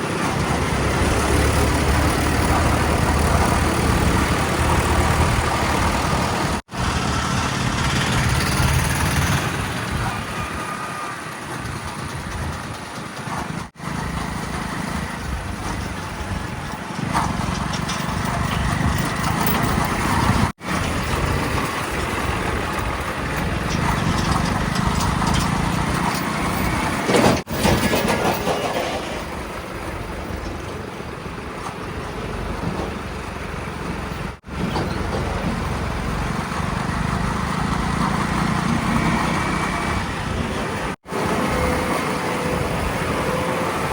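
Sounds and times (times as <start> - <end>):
diesel engines running under work: 0.0 - 43.9.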